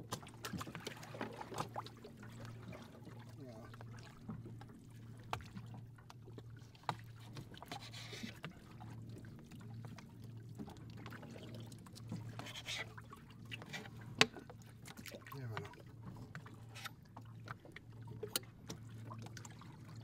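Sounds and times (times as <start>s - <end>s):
boat low hum: 0.0s - 20.0s.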